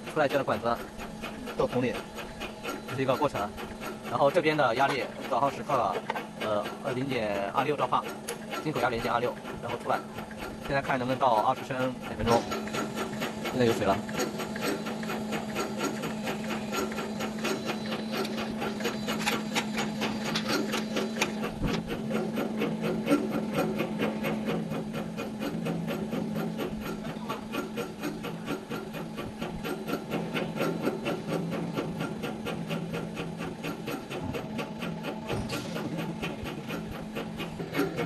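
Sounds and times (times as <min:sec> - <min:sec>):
machine humming: 0:00.0 - 0:38.0
rapid even ticking: 0:00.0 - 0:38.0
water flowing through pipe: 0:00.0 - 0:38.0.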